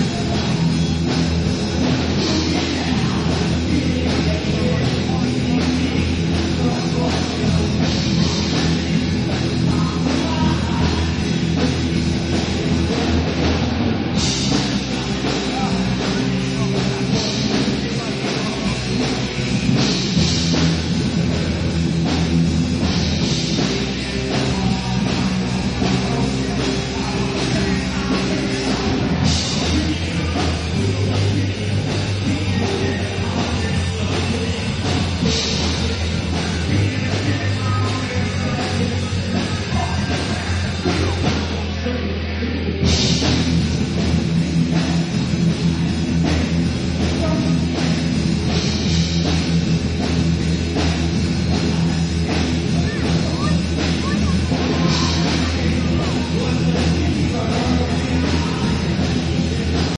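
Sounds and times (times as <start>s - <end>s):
band playing heavy rock: 0.0s - 59.9s.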